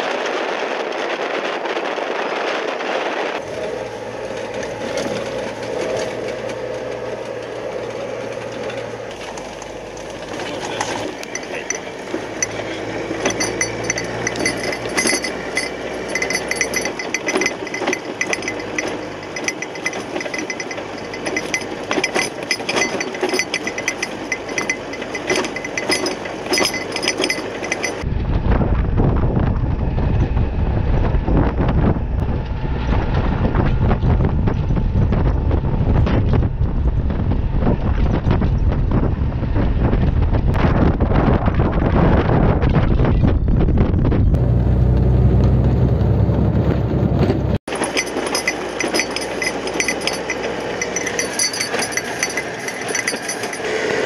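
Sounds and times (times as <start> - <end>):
vehicle engine and road noise: 0.0 - 54.0
wind buffeting rumble: 0.0 - 54.0
rattles and clinks in vehicle: 3.0 - 28.1, 31.4 - 54.0.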